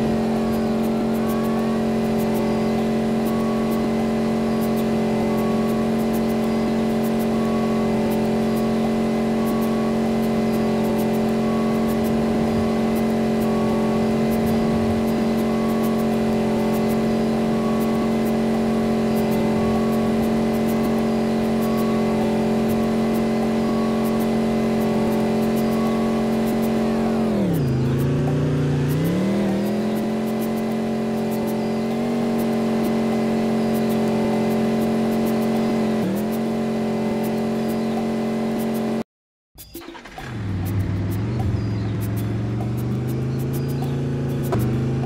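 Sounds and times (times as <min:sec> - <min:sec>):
bus engine humming: 0:00.0 - 0:39.0, 0:39.6 - 0:45.0.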